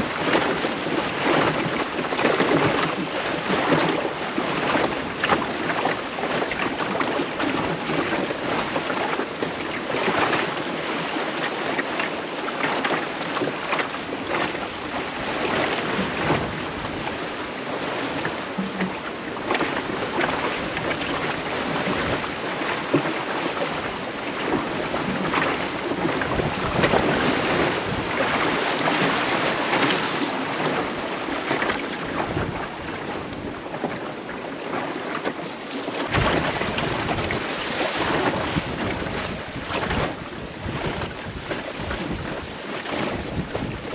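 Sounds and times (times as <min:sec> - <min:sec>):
wind buffeting microphone: 0:00.0 - 0:11.2, 0:12.9 - 0:34.8, 0:35.9 - 0:43.9
water splashing along boat hull: 0:00.0 - 0:43.9.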